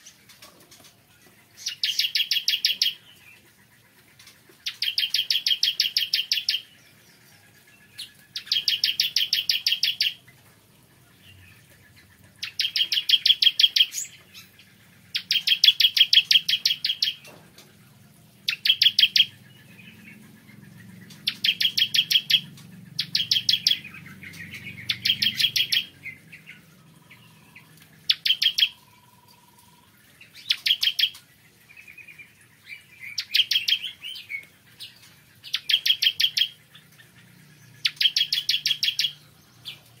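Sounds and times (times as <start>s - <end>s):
bird singing rattling trills: 0.0s - 40.0s.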